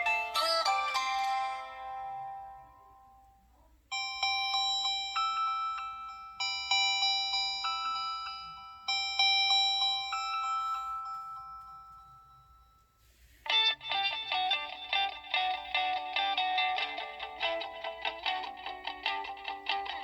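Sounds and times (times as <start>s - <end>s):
chiming phone ringtone: 0.0s - 3.2s, 3.9s - 20.0s.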